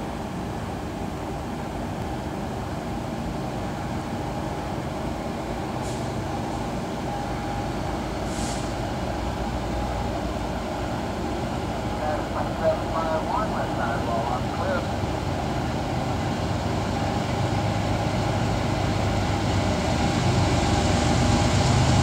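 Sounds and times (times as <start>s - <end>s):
distant diesel locomotive rumble: 0.0s - 22.0s.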